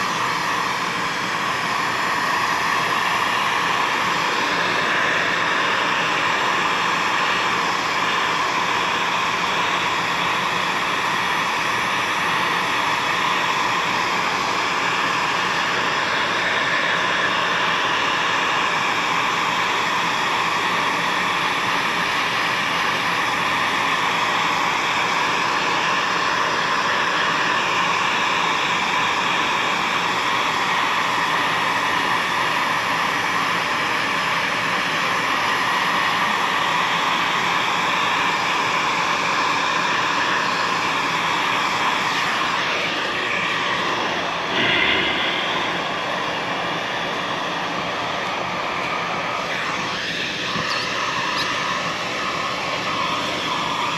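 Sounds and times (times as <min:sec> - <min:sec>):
motor or blower running: 0:00.0 - 0:53.9.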